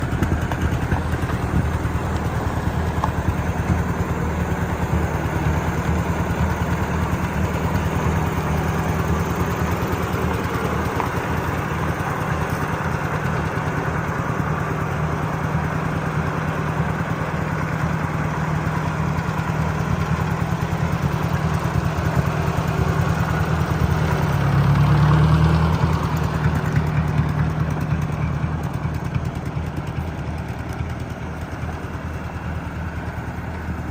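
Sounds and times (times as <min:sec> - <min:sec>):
tractor engine idling: 0:00.0 - 0:33.9.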